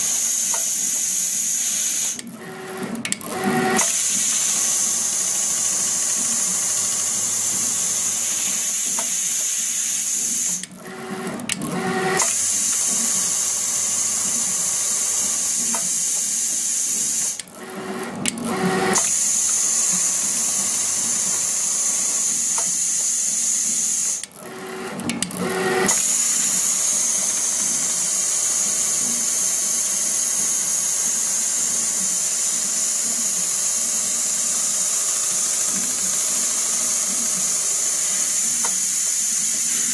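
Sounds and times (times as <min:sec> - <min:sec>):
sewing machine whirring: 0:00.0 - 0:39.9.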